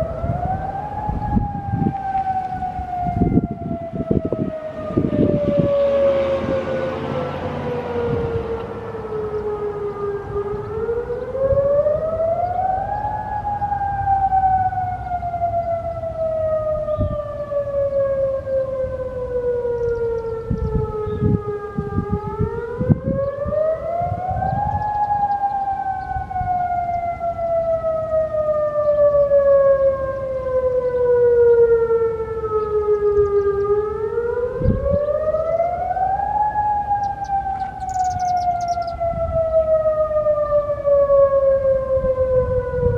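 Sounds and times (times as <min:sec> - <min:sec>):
outdoor warning siren wailing: 0:00.0 - 0:42.9.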